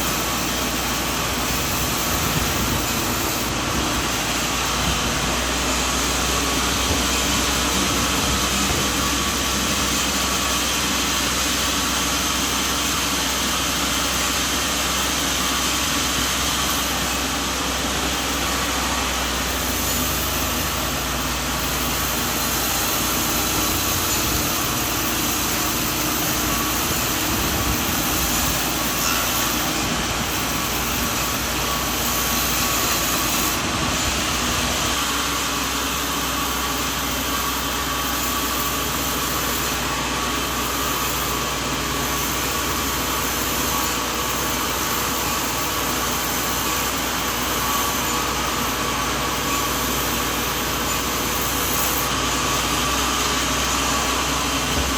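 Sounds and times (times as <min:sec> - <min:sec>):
sawmill mechanical noise: 0:00.0 - 0:54.9.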